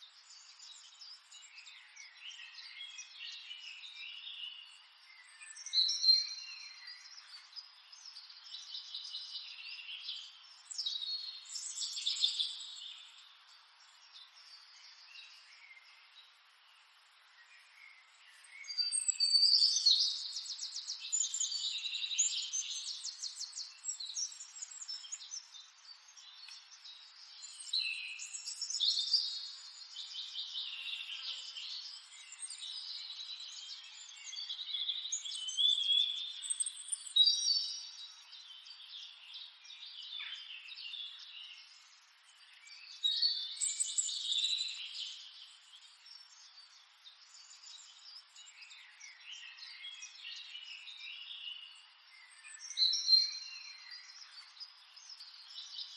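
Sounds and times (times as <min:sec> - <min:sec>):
birds singing: 0:00.0 - 0:55.9.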